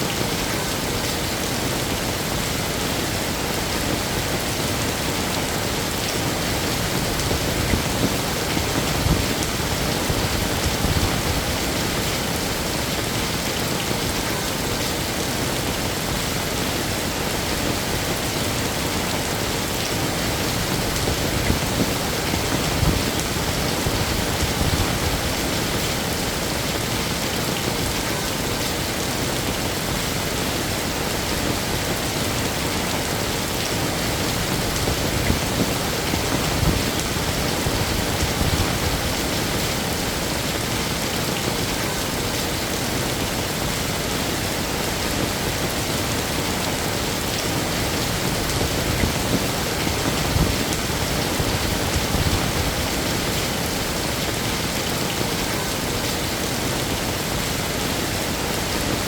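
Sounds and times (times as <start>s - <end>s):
heavy rain: 0.0s - 59.0s
wind gusts: 0.0s - 59.0s.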